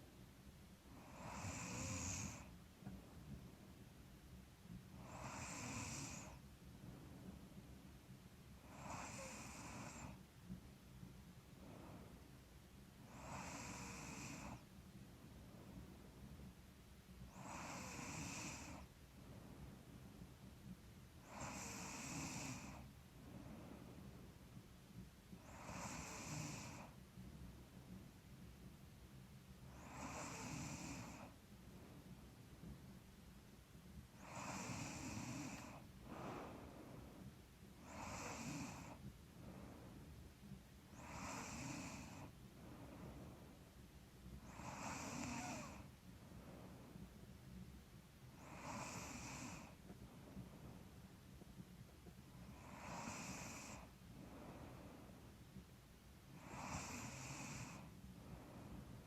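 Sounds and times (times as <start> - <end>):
woman breathing with light snoring: 0.9 - 3.6, 4.9 - 7.8, 8.5 - 10.3, 11.0 - 16.6, 17.2 - 24.6, 25.3 - 27.4, 29.6 - 32.8, 34.0 - 55.6, 56.2 - 59.0.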